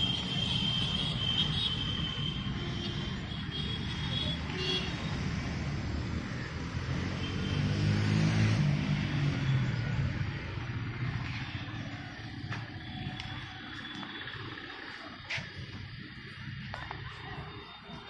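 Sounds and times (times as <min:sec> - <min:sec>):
distant road traffic: 0:00.0 - 0:18.0.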